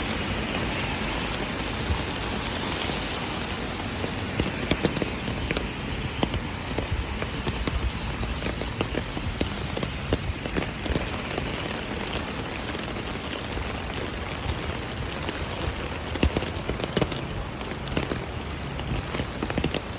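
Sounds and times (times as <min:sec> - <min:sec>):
rain hiss: 0:00.0 - 0:19.9
raindrops ticking on surface: 0:00.0 - 0:19.9.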